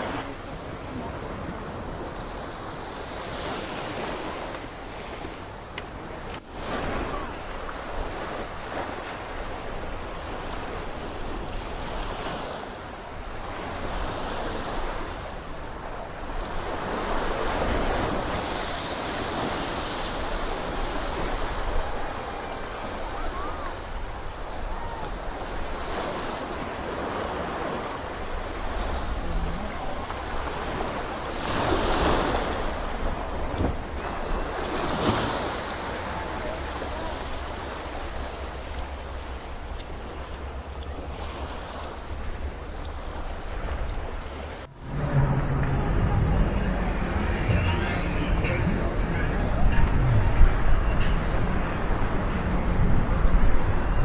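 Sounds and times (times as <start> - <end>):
ocean surf breaking on beach: 0.0 - 54.0
wind buffeting microphone: 0.0 - 54.0.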